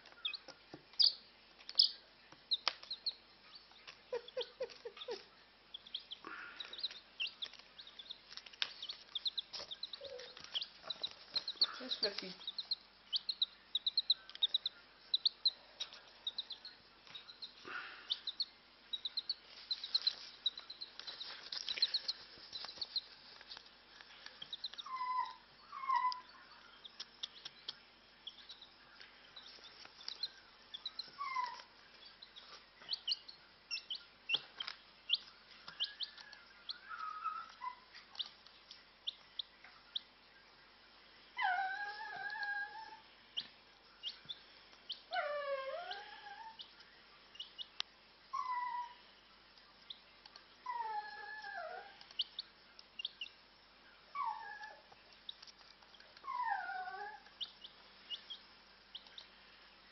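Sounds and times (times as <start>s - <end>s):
chick peeping: 0.0s - 40.6s, 41.4s - 47.8s, 48.4s - 59.9s.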